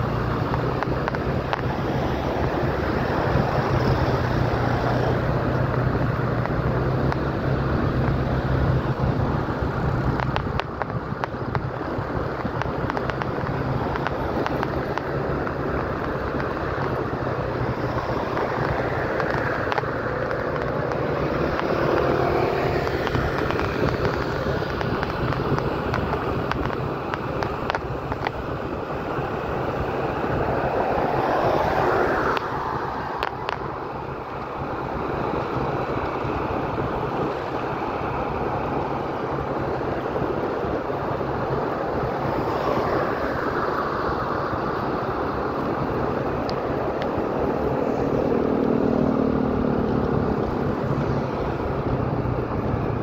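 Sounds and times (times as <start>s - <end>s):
moving vehicle road noise: 0.0s - 53.0s
wind rushing over microphone: 0.0s - 53.0s.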